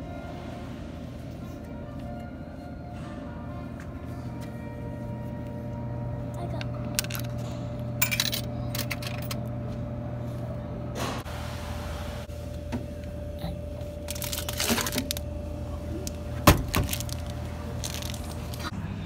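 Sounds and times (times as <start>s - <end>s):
vending machine humming: 0.0s - 19.0s.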